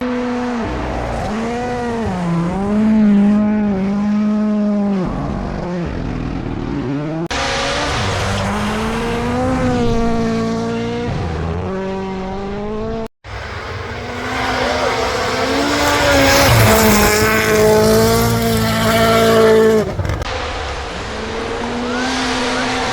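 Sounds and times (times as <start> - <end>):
rally car engines revving: 0.0 - 22.9.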